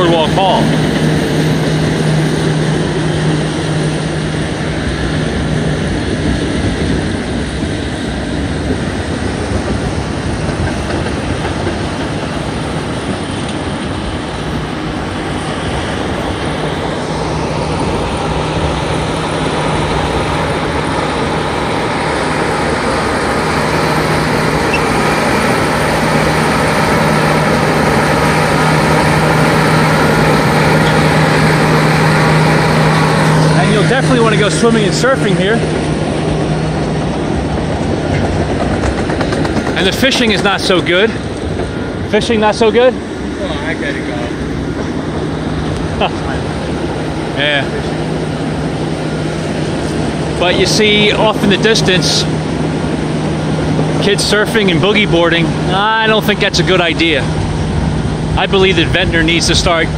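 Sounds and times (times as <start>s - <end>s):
bulldozer diesel engine running: 0.0s - 59.9s
rush of surf and water: 0.0s - 59.9s.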